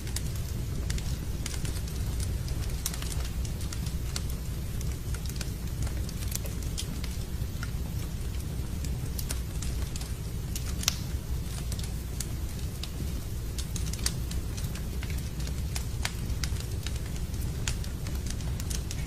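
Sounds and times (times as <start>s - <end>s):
steady low rumble: 0.0s - 19.0s
wood fire crackling and popping: 0.0s - 19.0s.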